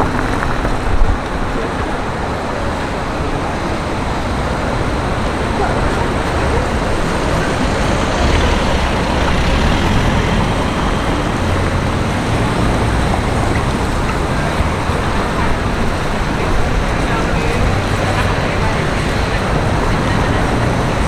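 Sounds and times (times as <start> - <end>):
tyre noise: 0.0 - 21.0
vehicle engine rumble: 0.0 - 21.0.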